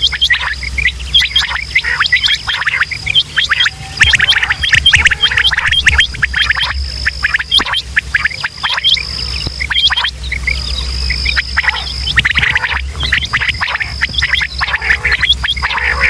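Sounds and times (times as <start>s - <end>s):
low hum: 0.0s - 16.0s
quail chirping: 0.0s - 16.0s.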